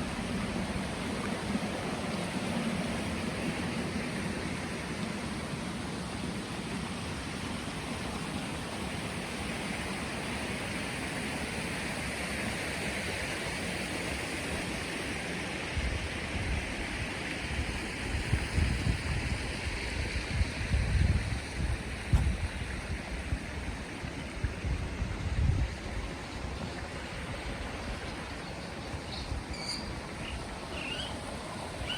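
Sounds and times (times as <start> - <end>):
running water: 0.0 - 31.9.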